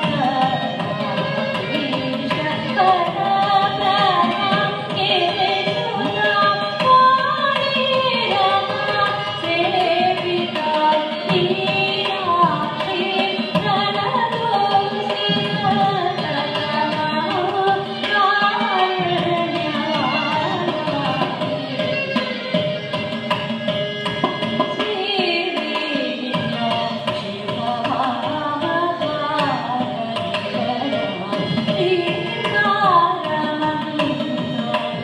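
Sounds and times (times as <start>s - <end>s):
woman singing classical song: 0.0s - 22.2s, 24.7s - 35.0s
violin: 0.0s - 35.0s.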